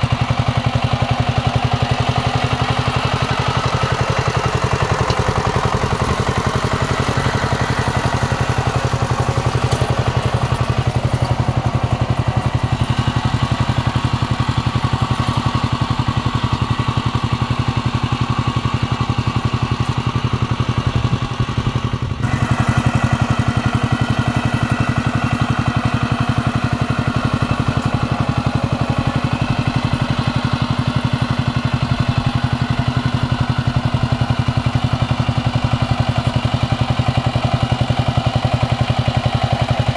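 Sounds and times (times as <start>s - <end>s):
diesel tiller engine running: 0.0s - 39.9s.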